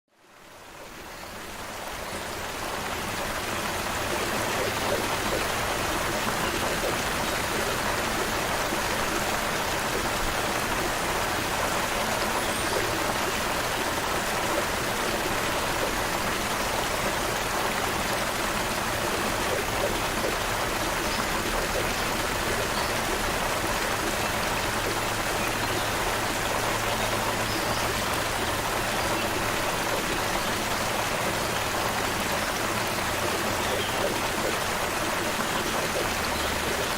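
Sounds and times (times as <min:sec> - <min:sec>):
creek water flowing: 0:00.1 - 0:36.9.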